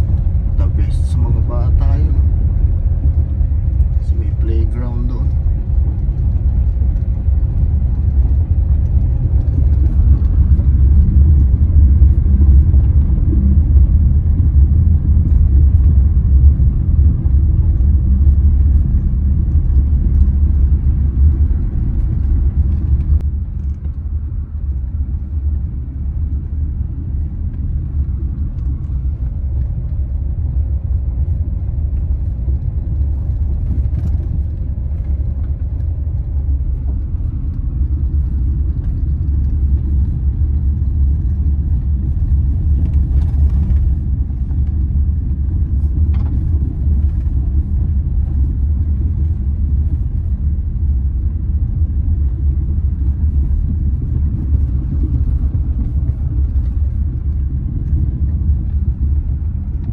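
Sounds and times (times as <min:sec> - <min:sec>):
car driving rumble inside cabin: 0:00.0 - 0:59.9.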